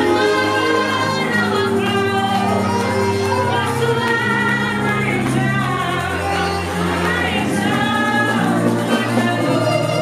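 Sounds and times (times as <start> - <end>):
backing singers: 0.0 - 10.0
band accompaniment: 0.0 - 10.0
woman singing into microphone: 0.0 - 10.0.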